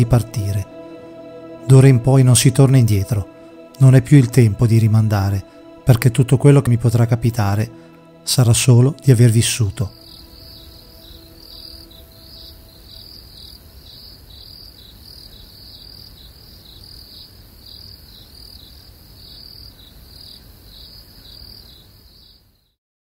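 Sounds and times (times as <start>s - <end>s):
crickets chirping: 0.0s - 22.8s.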